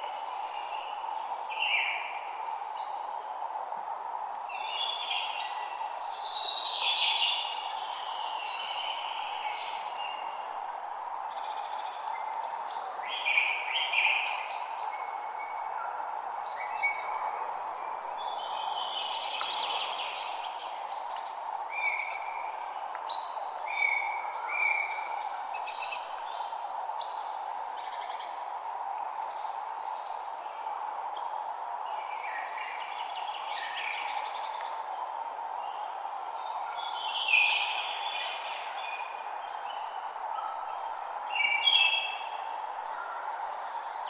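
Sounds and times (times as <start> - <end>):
songbirds chirping and trilling: 0.0 - 44.0
steady background hiss: 0.0 - 44.0.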